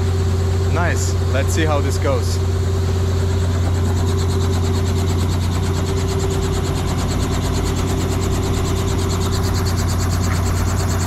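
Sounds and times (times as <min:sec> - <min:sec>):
helicopter idling: 0:00.0 - 0:11.0.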